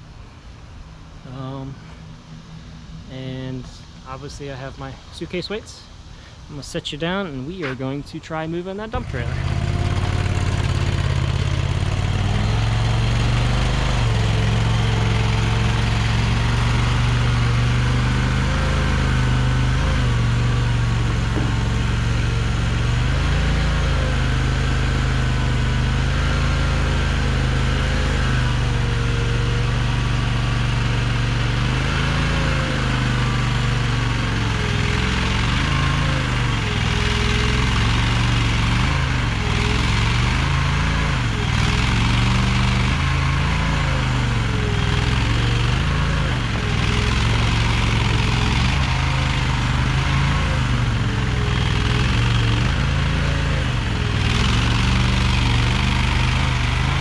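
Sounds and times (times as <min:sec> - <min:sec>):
hydraulic whine: 0:08.8 - 0:57.0
skid steer engine running: 0:08.8 - 0:57.0.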